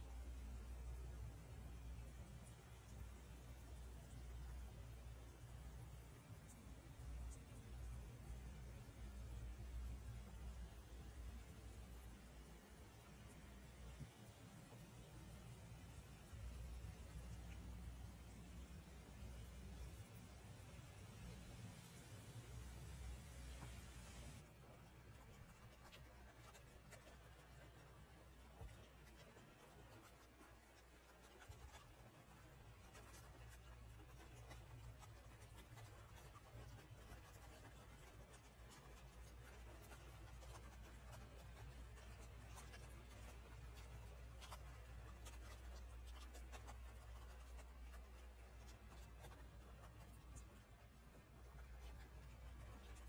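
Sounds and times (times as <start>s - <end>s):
light rain: 0.0s - 53.0s
low steady hum: 0.0s - 53.0s.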